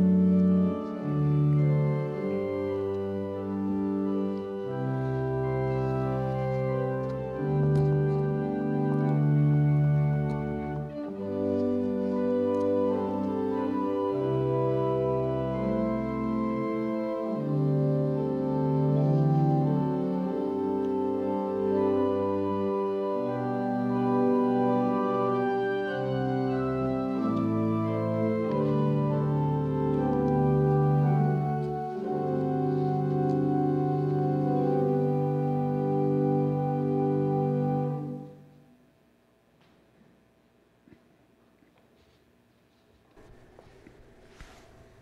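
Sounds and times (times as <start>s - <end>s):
pipe organ playing chords: 0.0s - 38.7s.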